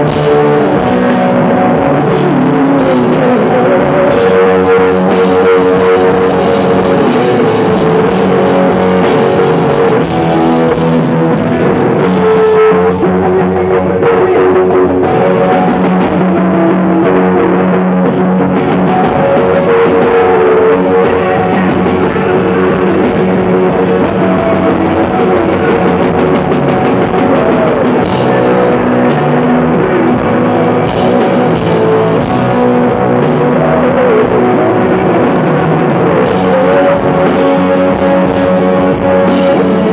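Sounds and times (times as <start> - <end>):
drum kit: 0.0 - 39.9
electric guitar: 0.0 - 39.9
live rock band playing: 0.0 - 39.9.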